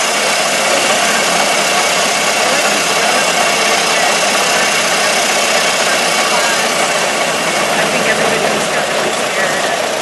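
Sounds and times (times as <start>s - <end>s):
car engine running: 0.0s - 10.0s
road noise: 0.0s - 10.0s.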